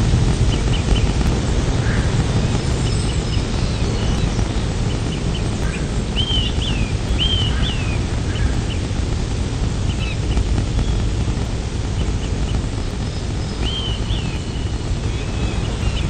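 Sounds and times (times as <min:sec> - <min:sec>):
low rumble: 0:00.0 - 0:16.0
small birds chirping: 0:00.1 - 0:16.0.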